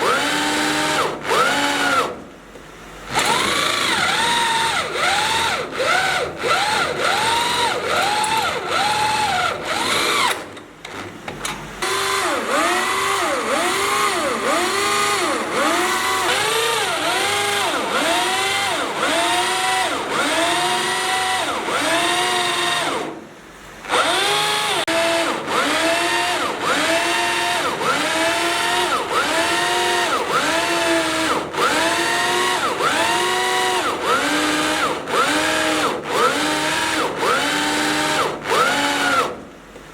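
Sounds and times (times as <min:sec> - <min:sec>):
power drill boring into steel: 0:00.0 - 0:02.2, 0:03.1 - 0:10.5, 0:11.8 - 0:23.2, 0:23.9 - 0:39.4.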